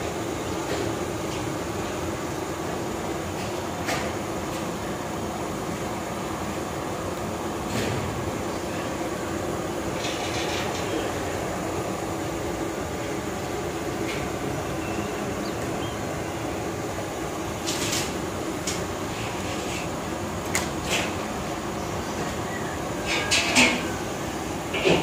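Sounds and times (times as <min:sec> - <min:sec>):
gas burner roaring: 0:00.0 - 0:25.0.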